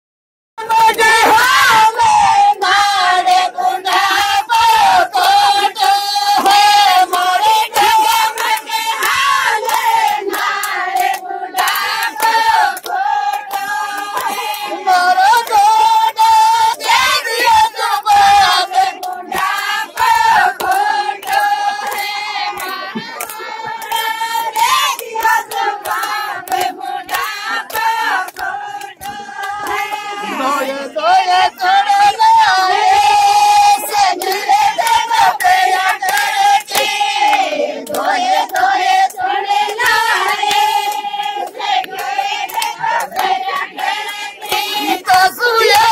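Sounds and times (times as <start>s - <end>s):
women singing in chorus: 0.6s - 45.9s.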